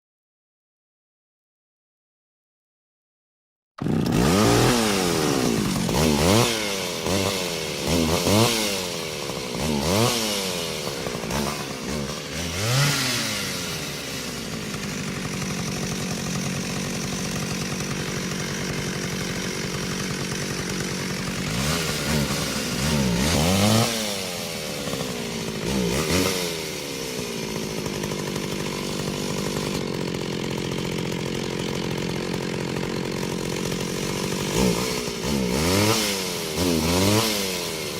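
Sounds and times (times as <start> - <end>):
chainsaw engine revving: 3.8 - 37.9.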